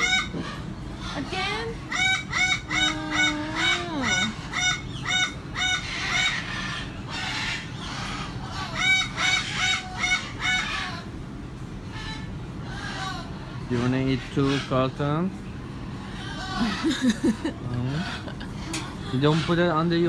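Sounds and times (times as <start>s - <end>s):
parrot squawking: 0.0s - 11.1s, 11.9s - 15.0s, 16.0s - 20.0s.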